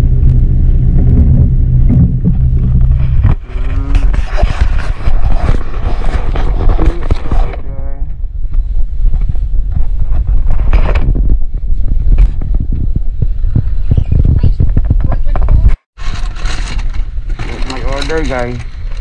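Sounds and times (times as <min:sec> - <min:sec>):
car cabin rumble: 0:00.0 - 0:15.8.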